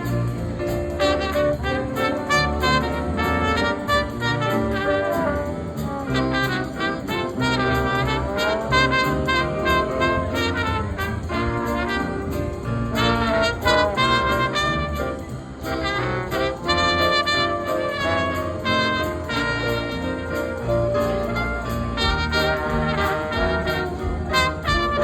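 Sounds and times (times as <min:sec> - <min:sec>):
quick horn melody: 0:00.0 - 0:25.0
steady bass line: 0:00.0 - 0:25.0.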